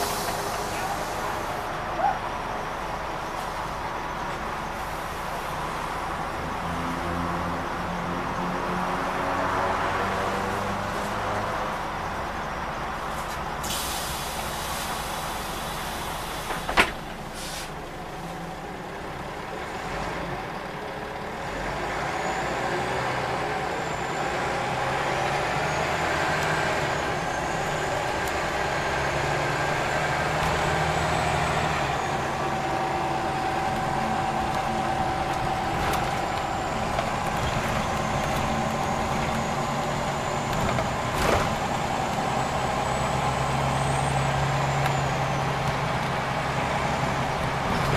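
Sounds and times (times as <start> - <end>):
bus engine accelerating: 0.0 - 47.9.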